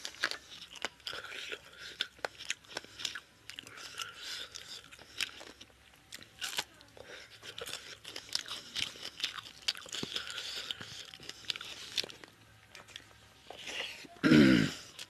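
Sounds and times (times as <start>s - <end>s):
crunchy chewing of raw onion: 0.0s - 15.0s.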